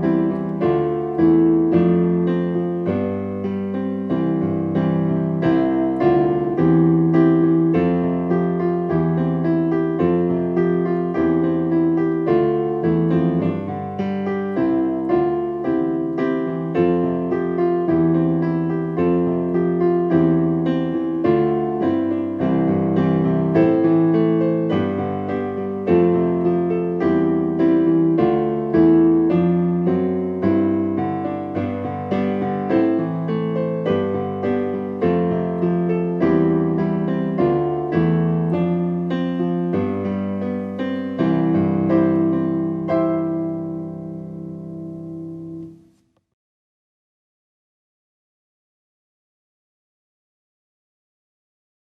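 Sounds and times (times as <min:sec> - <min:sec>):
gentle solo piano piece: 0:00.0 - 0:46.0.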